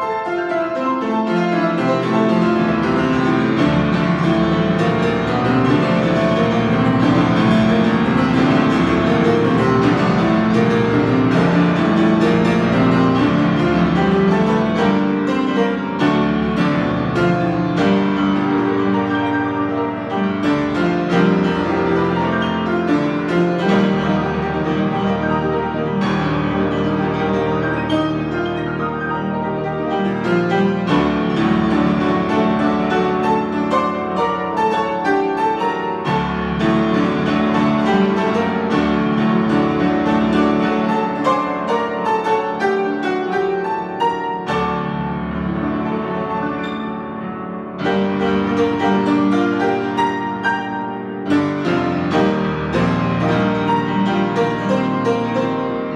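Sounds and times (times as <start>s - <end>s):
grand piano chords: 0.0s - 55.9s.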